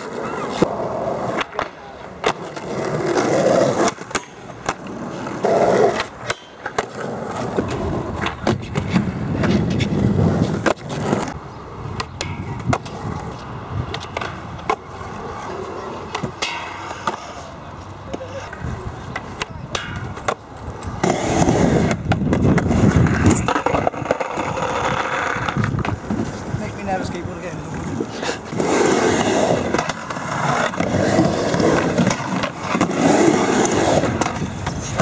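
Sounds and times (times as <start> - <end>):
skateboard wheels rumbling: 0.0 - 35.0
skateboards clacking: 0.0 - 35.0.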